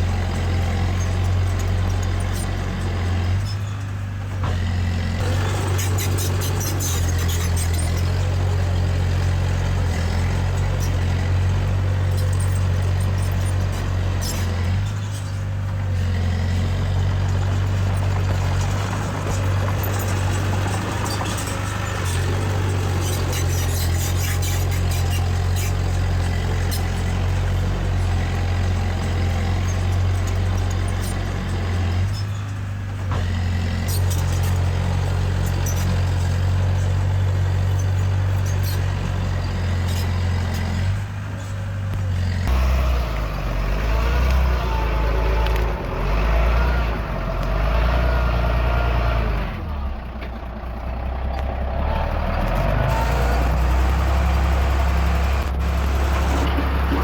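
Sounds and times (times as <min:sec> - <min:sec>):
diesel machinery engine: 0:00.0 - 0:57.0.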